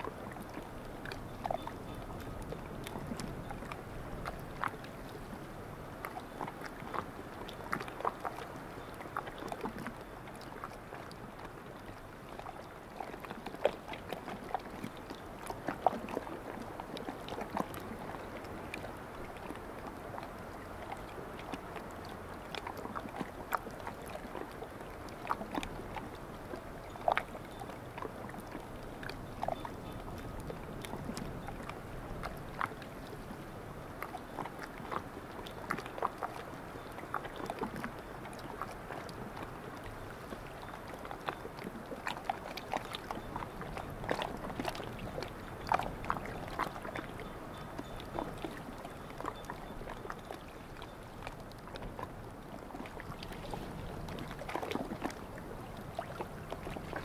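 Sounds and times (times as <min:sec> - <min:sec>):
water lapping at shore: 0:00.0 - 0:57.0
small splashes and clicks: 0:06.0 - 0:57.0.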